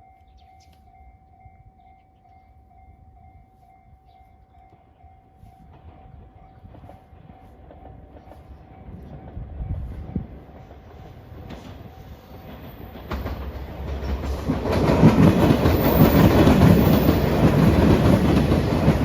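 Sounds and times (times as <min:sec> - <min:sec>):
level crossing warning bell: 0:00.0 - 0:19.0
low rumble of approaching train: 0:00.0 - 0:19.0.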